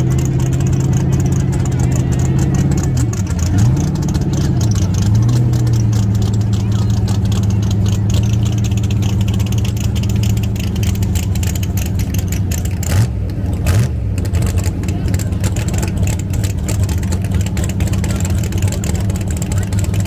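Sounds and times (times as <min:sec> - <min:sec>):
engine revving blips: 0:00.0 - 0:20.0
race car engine idling: 0:00.0 - 0:20.0.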